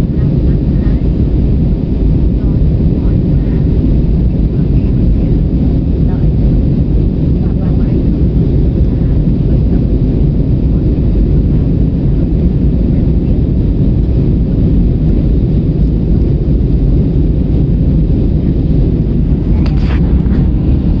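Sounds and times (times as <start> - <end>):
airliner engine rumble: 0.0 - 21.0.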